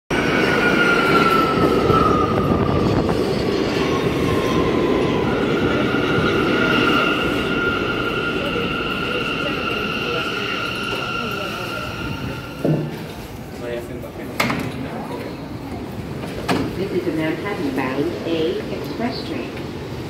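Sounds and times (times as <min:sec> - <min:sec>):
high train whine: 0:00.1 - 0:20.0
subway train rumble: 0:00.1 - 0:20.0.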